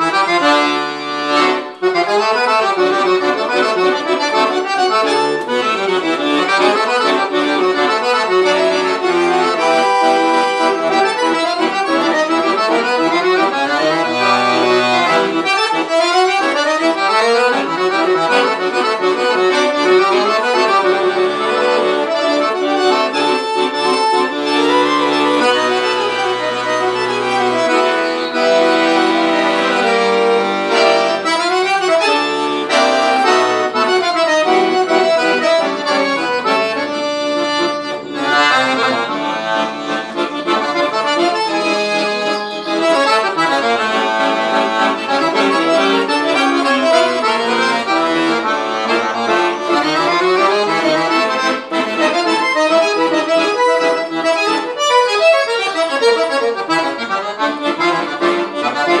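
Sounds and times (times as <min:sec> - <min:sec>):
accordion playing: 0:00.0 - 0:59.0.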